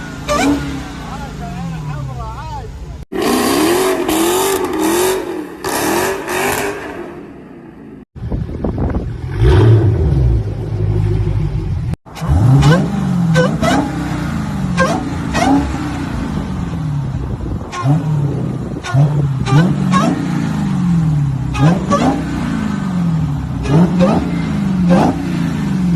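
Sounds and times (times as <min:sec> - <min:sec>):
car engine revving: 0:03.1 - 0:08.0, 0:09.0 - 0:25.9.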